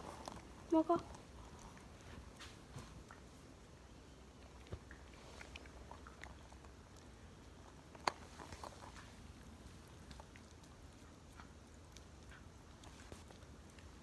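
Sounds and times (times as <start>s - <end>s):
pet chewing food: 0.0s - 14.0s.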